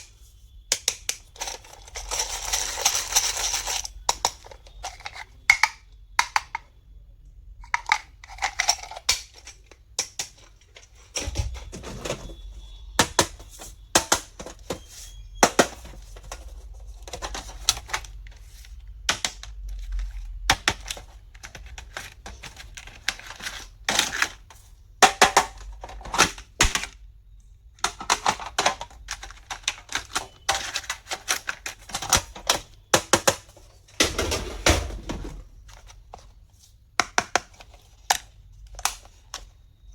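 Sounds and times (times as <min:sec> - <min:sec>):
plastic items clicking and tapping: 0:00.7 - 0:06.7, 0:07.6 - 0:27.0, 0:27.7 - 0:36.4, 0:37.0 - 0:39.6.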